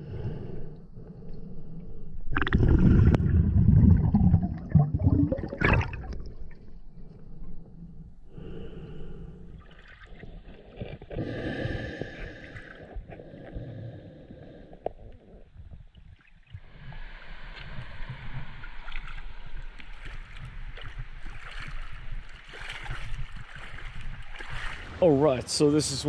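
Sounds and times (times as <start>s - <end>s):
water sloshing and gurgling: 0.0s - 25.4s.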